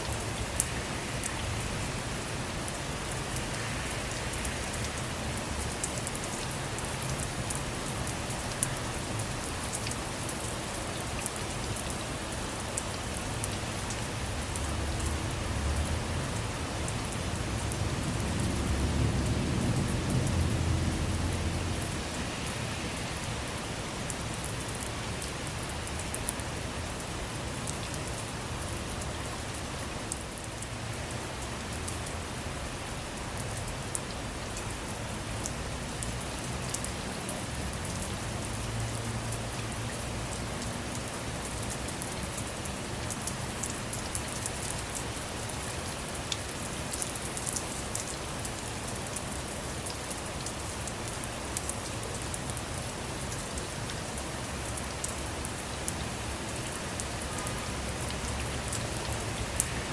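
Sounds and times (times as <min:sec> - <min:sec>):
rain pattering on a car: 0:00.0 - 0:59.9.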